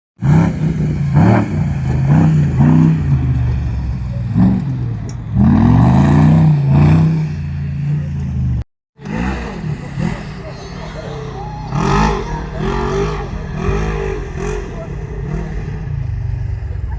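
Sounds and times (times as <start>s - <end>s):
car engine revving: 0.2s - 16.9s.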